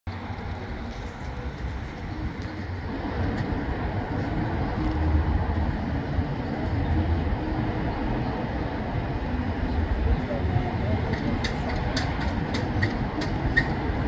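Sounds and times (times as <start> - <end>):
low vehicle rumble: 0.1 - 14.0.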